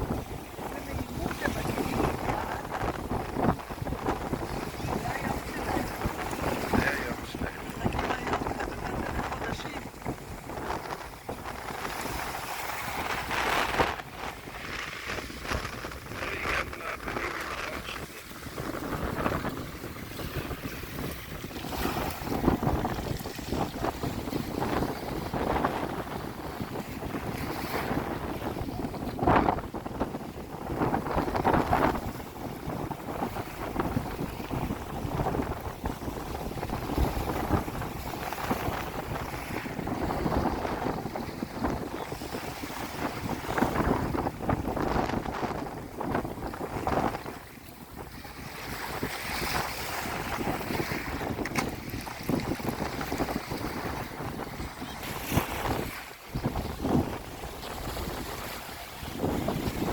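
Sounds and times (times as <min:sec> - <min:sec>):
waves washing: 0:00.0 - 0:59.9
wind buffeting microphone: 0:00.0 - 0:59.9.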